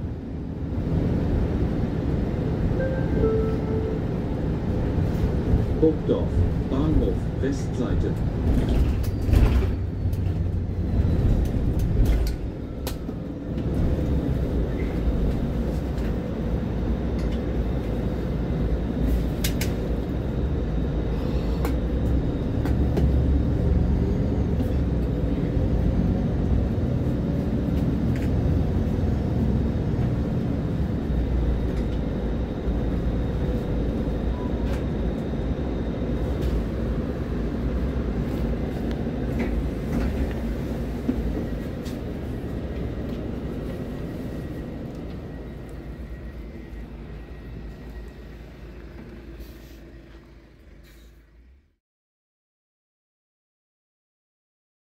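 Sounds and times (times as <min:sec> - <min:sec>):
diesel bus engine drone: 0:00.0 - 0:51.8.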